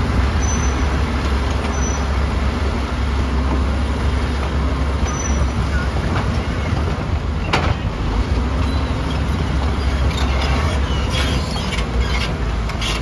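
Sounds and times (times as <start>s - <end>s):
heavy diesel engines rumbling: 0.0s - 13.0s.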